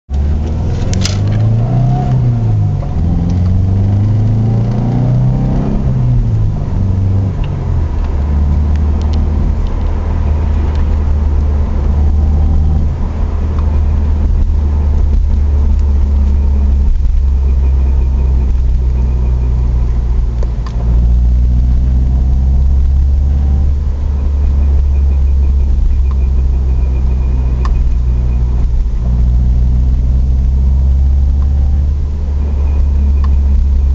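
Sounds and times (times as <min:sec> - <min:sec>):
car engine droning while driving: 0:00.1 - 0:33.9.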